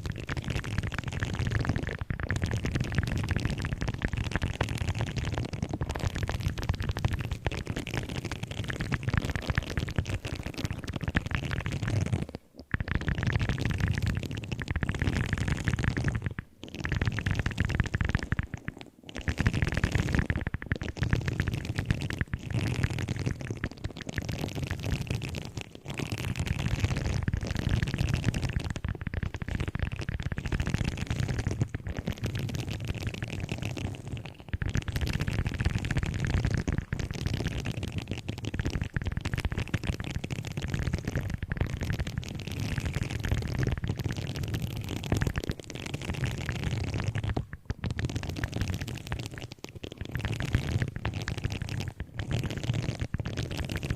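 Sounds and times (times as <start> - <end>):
objects crackling and scratching: 0.0 - 53.9.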